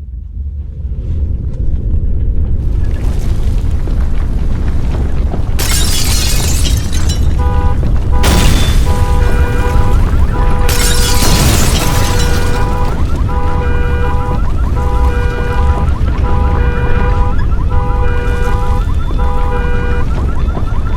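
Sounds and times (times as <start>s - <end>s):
deep rumbling: 0.0s - 20.9s
explosion-like crashing: 2.6s - 20.6s.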